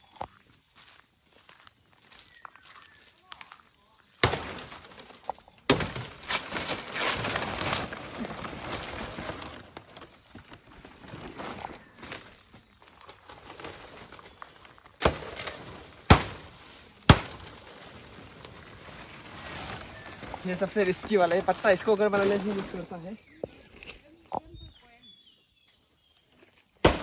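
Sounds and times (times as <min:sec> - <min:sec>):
palm fronds rustling: 0:00.0 - 0:25.0.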